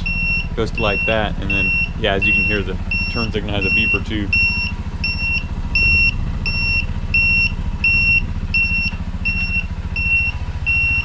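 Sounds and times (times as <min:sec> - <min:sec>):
high turn-signal beeps: 0:00.0 - 0:11.0
low steady rumble: 0:00.0 - 0:11.0.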